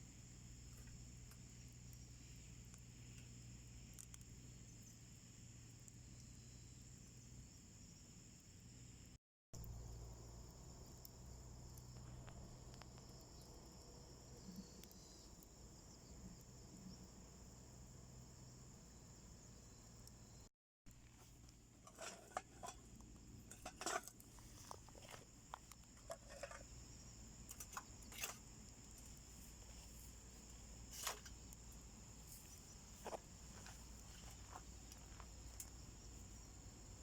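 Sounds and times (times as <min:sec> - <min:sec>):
crickets trilling: 0:00.0 - 0:37.0
wood fire crackling: 0:00.2 - 0:07.9, 0:09.6 - 0:20.3, 0:21.0 - 0:37.0.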